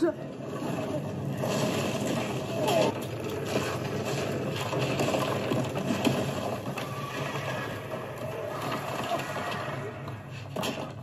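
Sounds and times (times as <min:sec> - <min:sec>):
battle scene din: 0:00.0 - 0:10.4.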